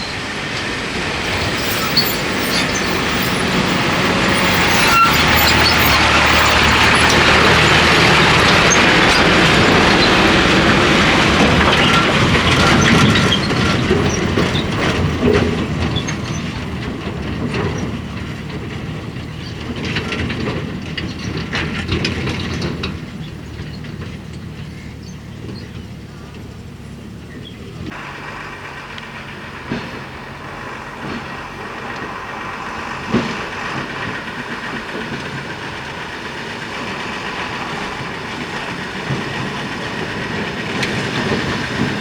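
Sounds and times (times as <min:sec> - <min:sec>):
truck body rattling and clanking: 0:00.0 - 0:42.0
truck engine under load: 0:00.0 - 0:42.0.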